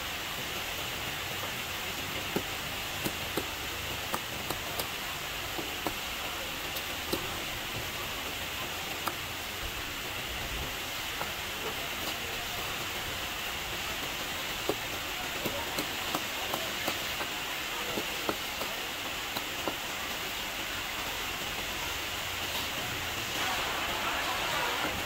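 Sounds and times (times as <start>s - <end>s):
market background hiss: 0.0s - 25.0s.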